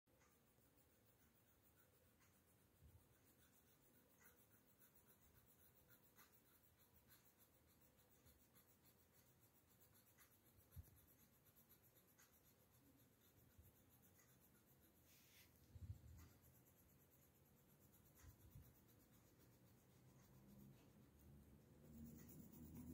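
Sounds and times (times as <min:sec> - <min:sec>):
pencil scratching on paper: 0:00.1 - 0:22.9.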